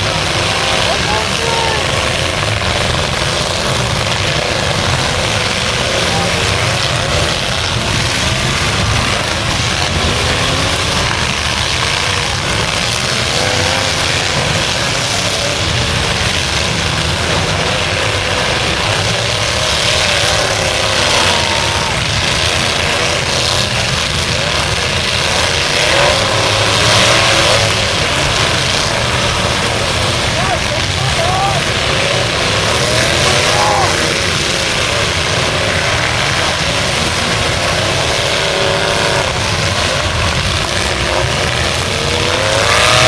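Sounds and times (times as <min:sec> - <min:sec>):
truck engines running: 0:00.0 - 0:43.0.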